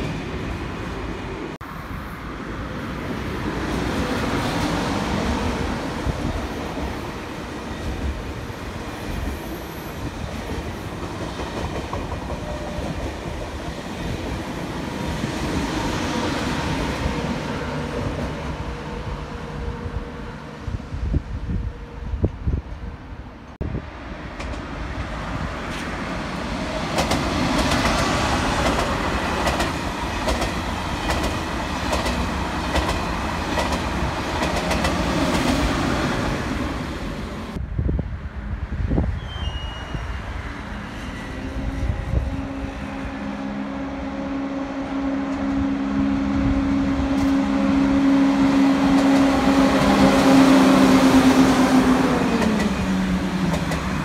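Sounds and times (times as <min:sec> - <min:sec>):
train electric hum: 0:00.0 - 0:54.0.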